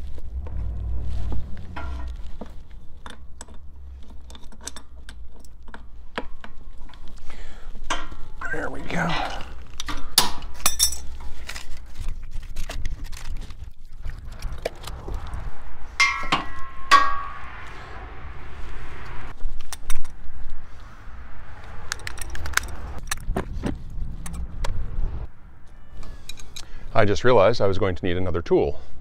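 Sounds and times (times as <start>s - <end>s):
road traffic rumble: 0.0s - 12.2s, 13.1s - 27.5s.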